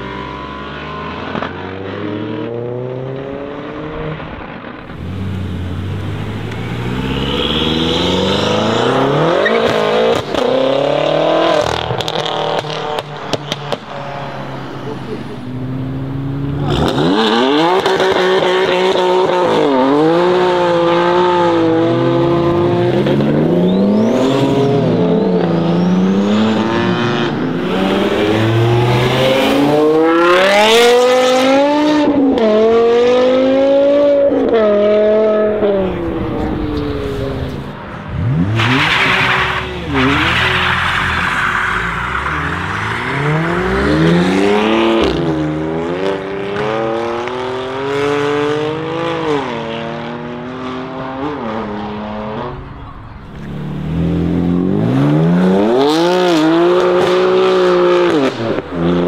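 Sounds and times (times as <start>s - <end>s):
cars accelerating hard: 0.0s - 59.0s.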